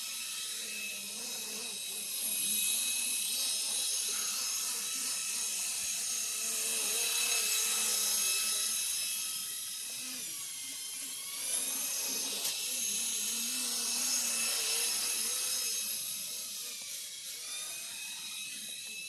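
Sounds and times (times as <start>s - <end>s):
toy helicopter motor whine: 0.0s - 19.0s.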